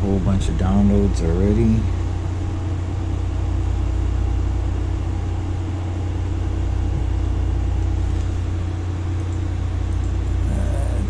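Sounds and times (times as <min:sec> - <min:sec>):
computer fan and drive humming: 0:00.0 - 0:11.0.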